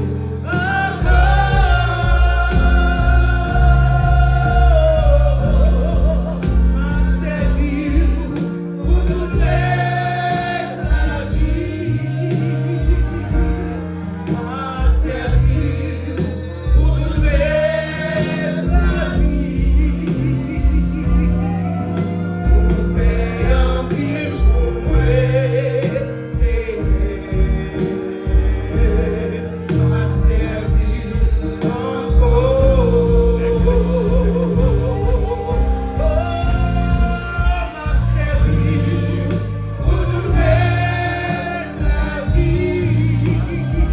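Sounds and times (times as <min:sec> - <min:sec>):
band accompaniment: 0:00.0 - 0:43.9
bass line: 0:00.0 - 0:43.9
voices singing gospel: 0:00.0 - 0:43.9.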